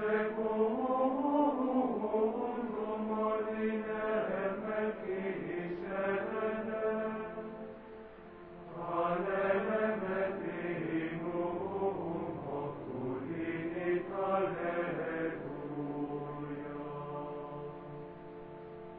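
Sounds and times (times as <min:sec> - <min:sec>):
voices singing a slow chant: 0:00.0 - 0:18.9.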